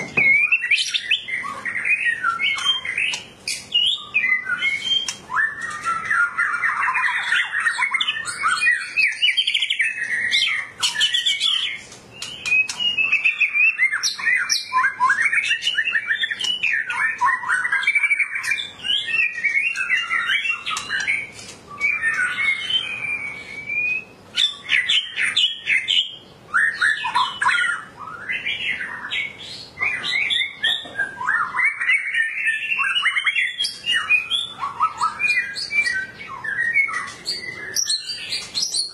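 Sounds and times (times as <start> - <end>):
bird singing whistled phrases: 0.2 - 38.9.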